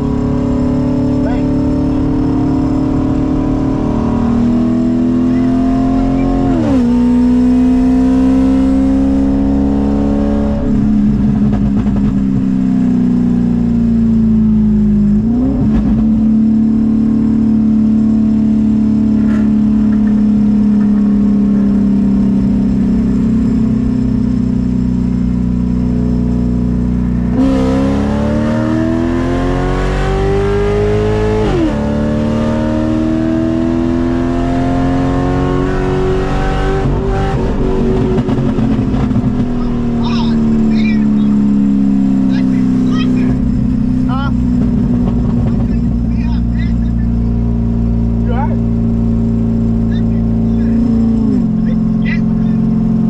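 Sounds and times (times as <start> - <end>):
loud car engine accelerating: 0.0 - 53.0.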